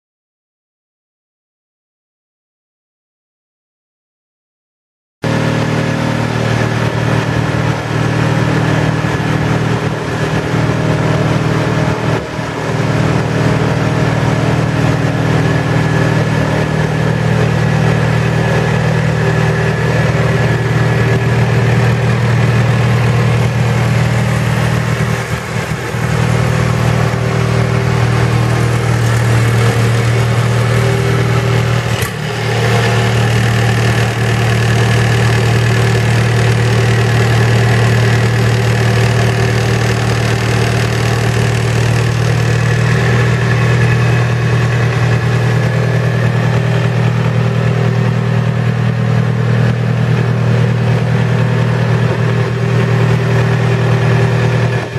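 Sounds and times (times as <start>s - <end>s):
diesel concrete saw idling: 5.2s - 54.9s.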